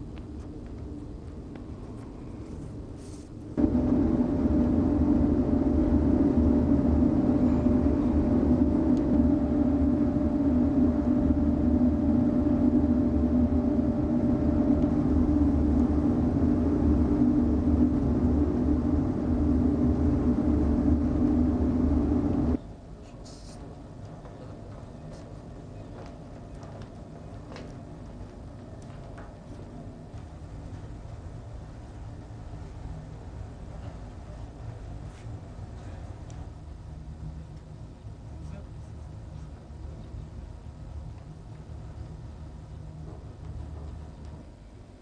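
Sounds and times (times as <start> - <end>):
faint steady hum: 0.0 - 45.0
ship machinery low drone: 0.0 - 45.0.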